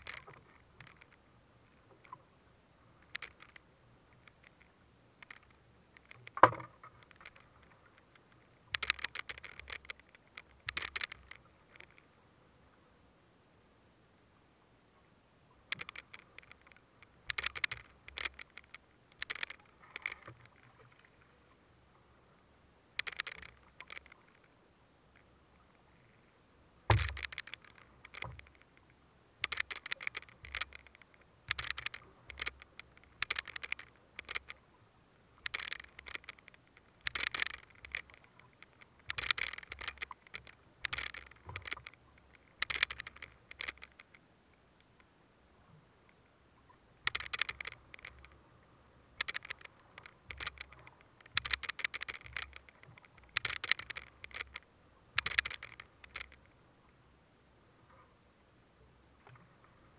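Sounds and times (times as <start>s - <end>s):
fishing line scraping and rustling: 0.0s - 12.2s, 15.6s - 45.2s, 46.0s - 57.0s.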